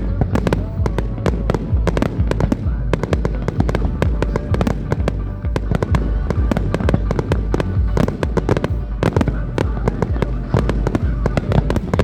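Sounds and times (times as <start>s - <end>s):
deep rumble: 0.0s - 12.0s
fireworks bangs and crackles: 0.0s - 12.0s.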